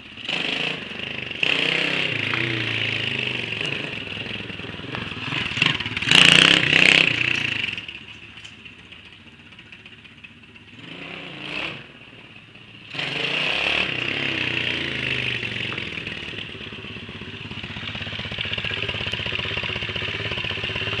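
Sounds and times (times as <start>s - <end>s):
motorbike engine revving: 0.0s - 7.9s, 10.7s - 12.0s, 12.9s - 21.0s.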